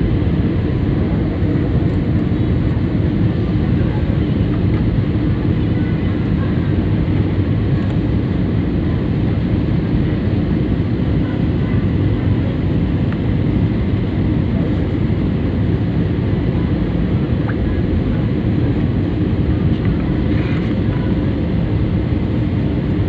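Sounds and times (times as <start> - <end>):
airliner cabin engine noise: 0.0 - 23.0.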